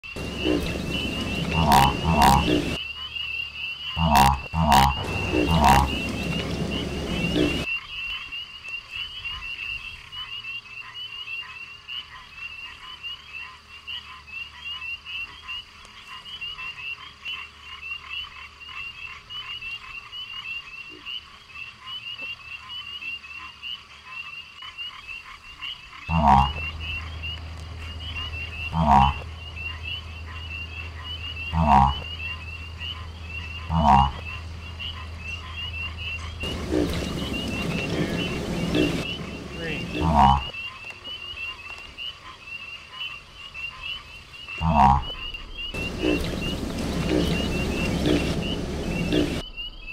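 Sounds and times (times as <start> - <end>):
deep frog croaks: 0.0 - 3.2, 3.8 - 8.5, 10.1 - 40.7, 42.2 - 49.7
frogs chirping: 0.0 - 49.9.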